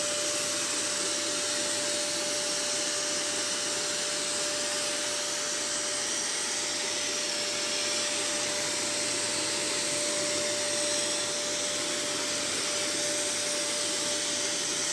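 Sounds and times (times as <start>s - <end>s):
fogger blower whining: 0.0s - 14.9s.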